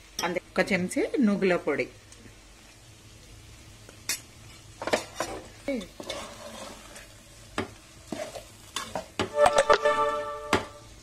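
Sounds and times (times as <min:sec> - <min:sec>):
faint sizzle of frying oil: 0:00.0 - 0:11.0.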